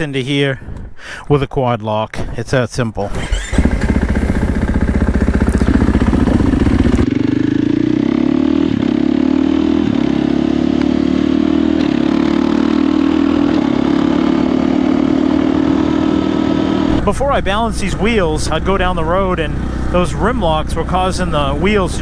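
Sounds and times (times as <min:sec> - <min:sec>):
motorcycle engine revving: 0:03.1 - 0:22.0.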